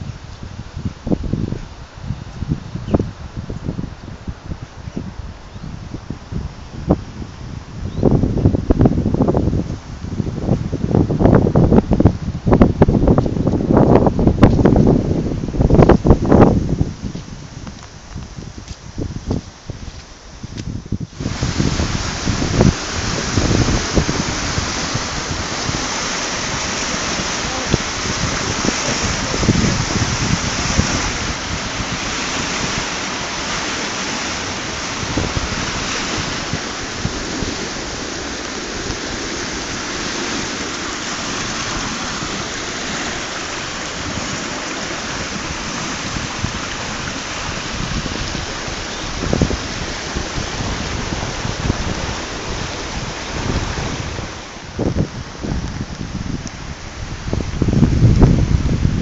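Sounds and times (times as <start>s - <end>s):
river rushing: 0.0s - 59.0s
wind buffeting microphone: 0.0s - 59.0s.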